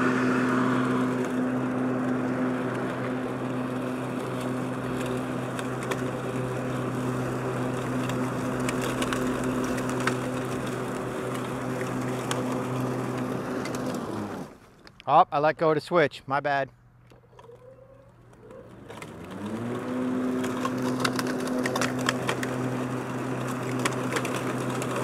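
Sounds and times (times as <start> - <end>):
lawn mower running: 0.0 - 14.9, 17.1 - 25.0.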